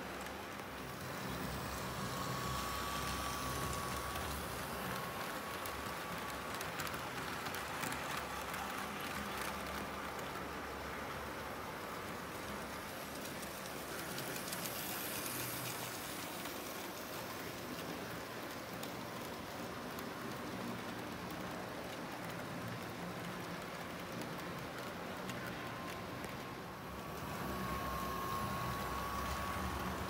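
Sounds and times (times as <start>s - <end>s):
model train wheels hissing on rails: 0.0s - 30.0s.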